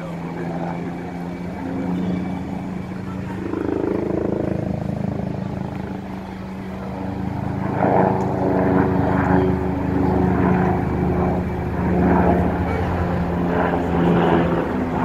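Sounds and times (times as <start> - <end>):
engine hum: 0.0 - 15.0
helicopter rotor beat: 0.0 - 15.0.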